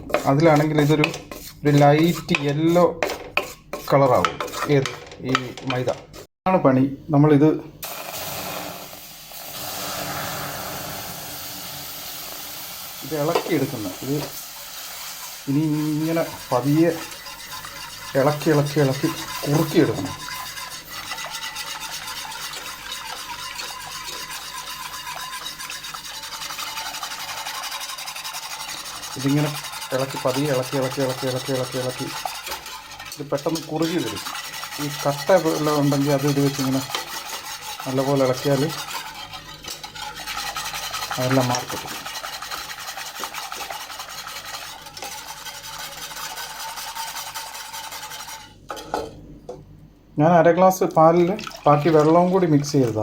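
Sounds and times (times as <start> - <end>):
utensil scraping bottom of pan: 0.0 - 6.3, 8.1 - 49.1.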